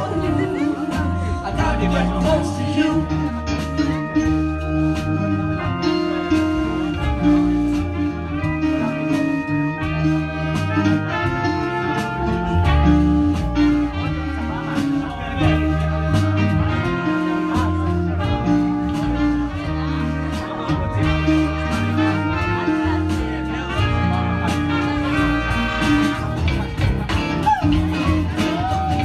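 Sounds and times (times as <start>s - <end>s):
bass line: 0.0s - 29.0s
drums: 0.0s - 29.0s
electric guitar: 0.0s - 29.0s
trumpet and horn section: 0.0s - 29.0s.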